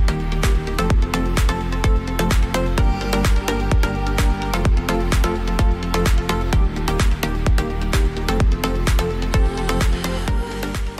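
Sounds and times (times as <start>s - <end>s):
electronic dance music: 0.0s - 10.9s
kick drum beat: 0.0s - 10.9s.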